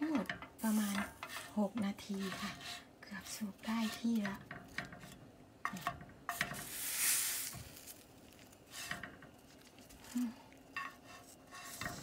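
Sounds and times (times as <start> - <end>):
food sizzling: 0.0 - 4.8, 5.7 - 12.0
chopsticks scraping a frying pan: 0.0 - 8.0, 8.6 - 9.5, 10.7 - 12.0.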